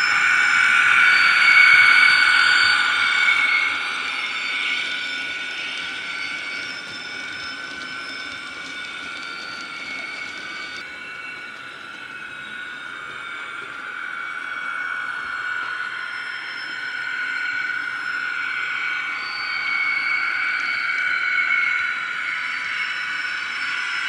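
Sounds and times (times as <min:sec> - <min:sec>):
electric locomotive whine from speaker: 0:00.0 - 0:24.0.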